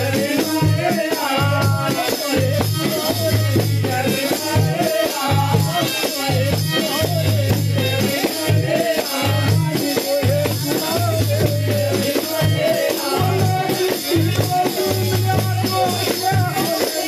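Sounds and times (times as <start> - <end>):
frame drum with jingles: 0.0 - 17.0.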